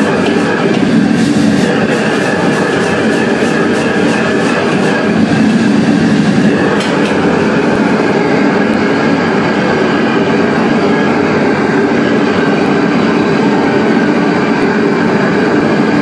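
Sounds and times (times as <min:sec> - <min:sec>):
gas burner flame roaring: 0:00.0 - 0:16.0.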